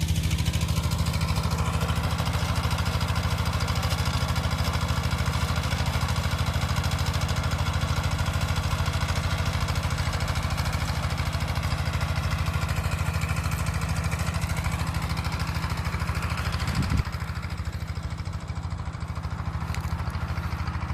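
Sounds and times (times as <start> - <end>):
small engine idling: 0.0 - 20.9.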